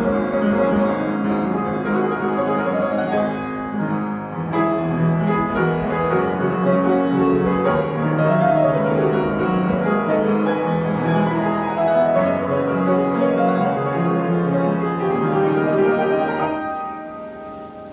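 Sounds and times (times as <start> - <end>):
piano chords and runs: 0.0 - 17.9.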